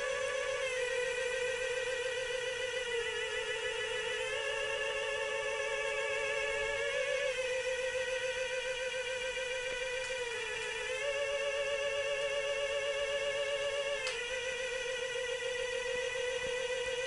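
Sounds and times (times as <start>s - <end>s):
eerie wavering electronic tone: 0.0s - 17.0s.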